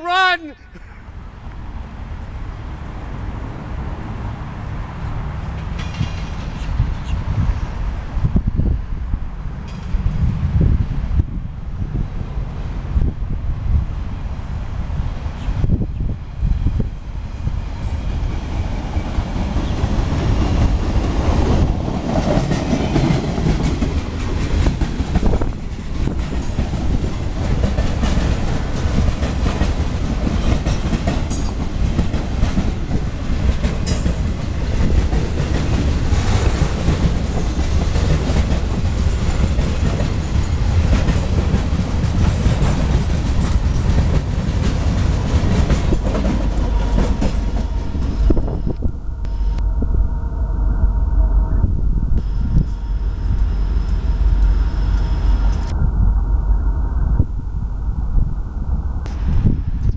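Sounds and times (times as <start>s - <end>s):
freight train rolling past: 1.1s - 59.9s.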